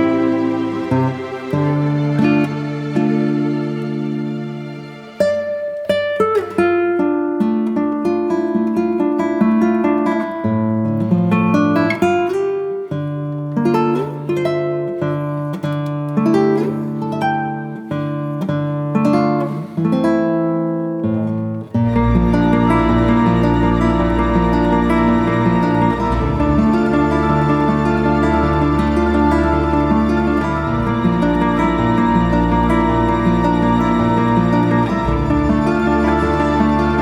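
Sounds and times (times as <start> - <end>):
instrumental music with plucked notes: 0.0 - 37.0.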